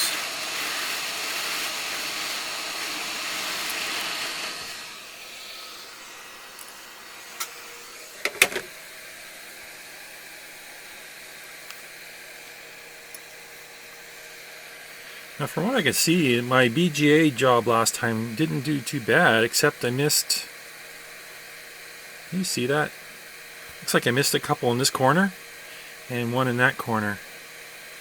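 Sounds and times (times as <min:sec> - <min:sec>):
hot air station hissing: 0:00.0 - 0:28.0.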